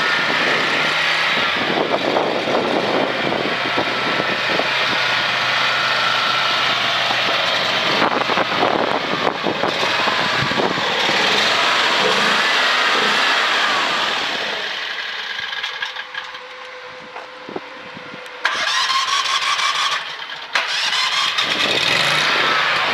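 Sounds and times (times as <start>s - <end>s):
small engine whining: 0.0s - 22.9s.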